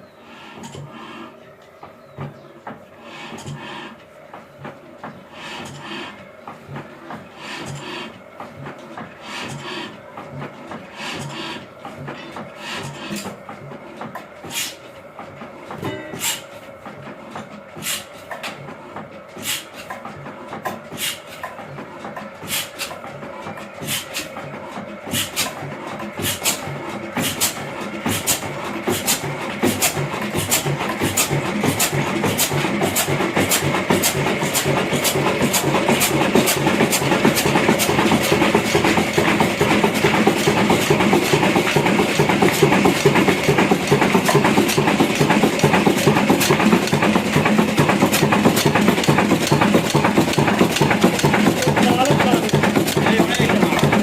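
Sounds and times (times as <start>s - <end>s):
diesel engine starting up: 0.0s - 54.0s.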